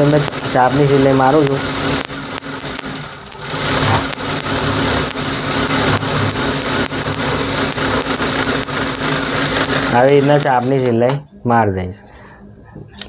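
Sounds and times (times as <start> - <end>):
sewing machine running: 0.0 - 11.1.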